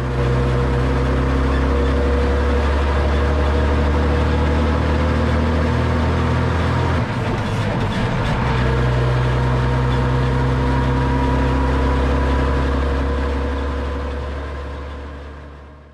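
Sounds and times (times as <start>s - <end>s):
truck engine running: 0.0s - 15.9s.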